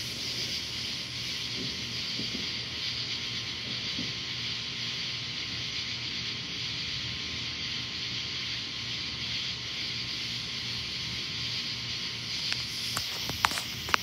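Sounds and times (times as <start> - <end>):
even high hiss: 0.0 - 14.0.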